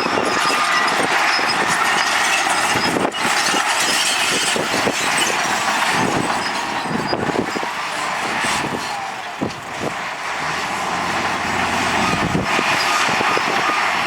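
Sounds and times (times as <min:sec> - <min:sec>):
heavy earthmoving machinery: 0:00.0 - 0:14.0.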